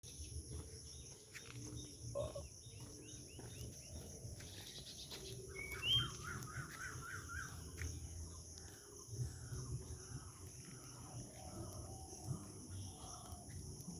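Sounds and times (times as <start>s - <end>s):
songbirds chirping: 0.0s - 13.9s.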